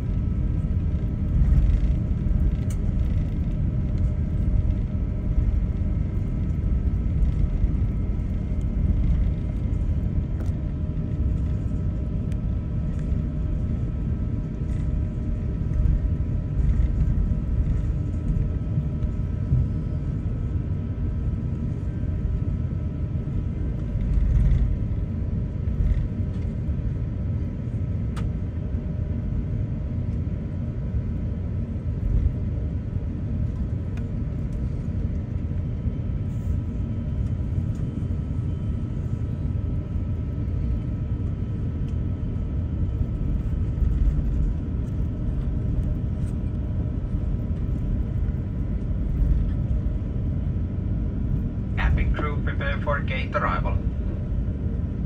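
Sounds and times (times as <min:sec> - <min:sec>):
airliner cabin rumble: 0:00.0 - 0:55.0
faint constant hum: 0:00.0 - 0:55.0.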